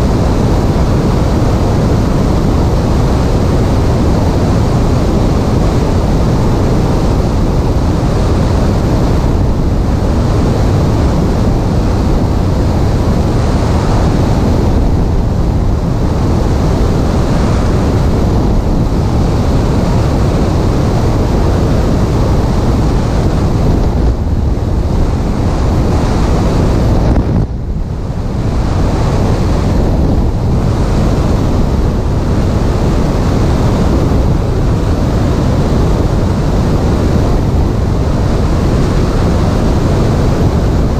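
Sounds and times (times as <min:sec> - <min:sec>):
wind roar on microphone: 0:00.0 - 0:40.9.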